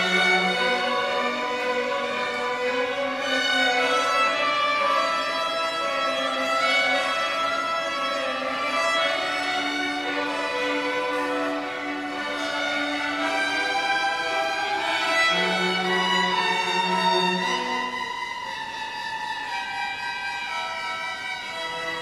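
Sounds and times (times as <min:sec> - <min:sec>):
string orchestra playing: 0:00.0 - 0:22.0.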